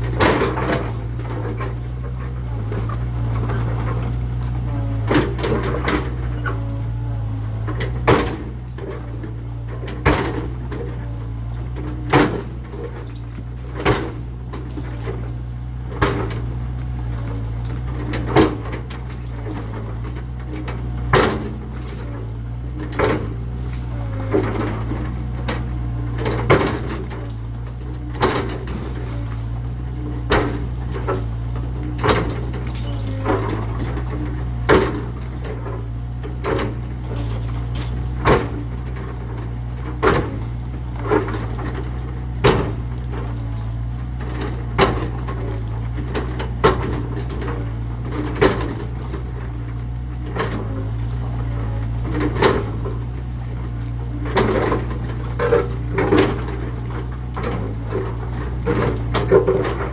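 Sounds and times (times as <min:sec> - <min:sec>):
demolition knocks and crashes: 0:00.0 - 0:59.9
excavator engine running: 0:00.0 - 0:59.9.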